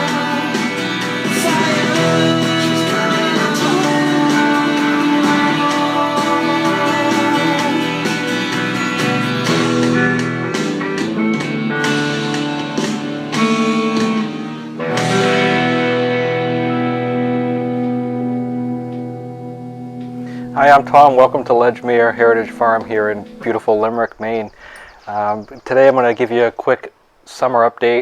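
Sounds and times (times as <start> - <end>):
guitar chord ringing: 0.0 - 24.5
instrumental rock guitar music: 0.0 - 24.8.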